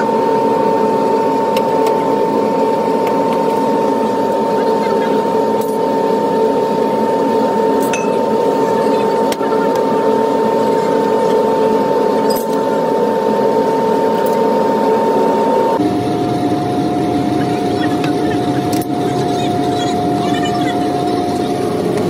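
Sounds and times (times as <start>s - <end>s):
motor drone with whine: 0.0s - 22.0s.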